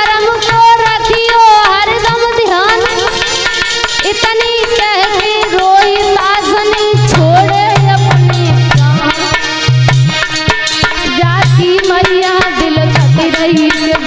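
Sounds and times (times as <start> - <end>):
woman singing: 0.0 - 3.4, 4.0 - 9.5, 11.1 - 14.0
hand drum beats: 0.0 - 14.0.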